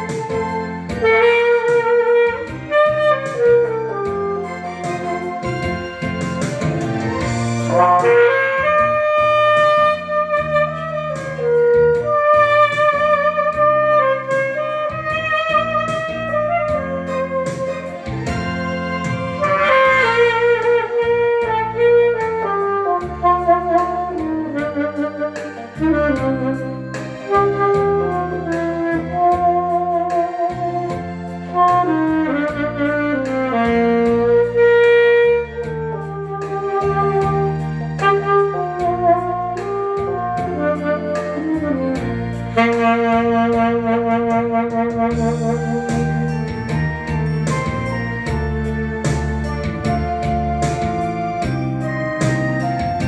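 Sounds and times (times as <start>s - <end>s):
backing track with bass and drums: 0.0s - 53.0s
saxophone slow melody: 0.0s - 53.0s.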